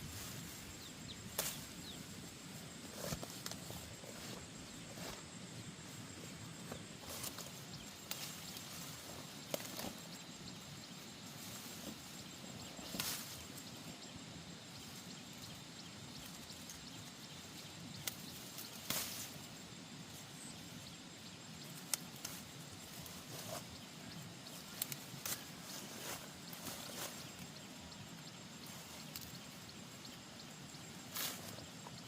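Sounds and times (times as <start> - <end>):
faint outdoor background noise: 0.0 - 32.0.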